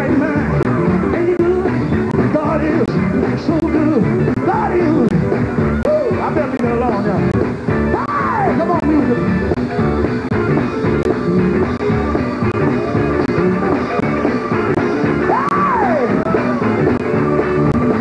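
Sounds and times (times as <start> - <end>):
live gospel band music: 0.0 - 18.0.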